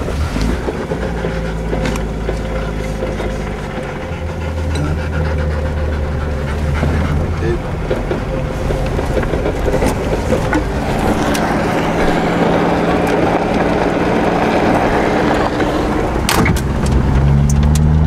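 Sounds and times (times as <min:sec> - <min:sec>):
car engine running: 0:00.0 - 0:18.0
tyres rumbling on dirt road: 0:00.0 - 0:18.0.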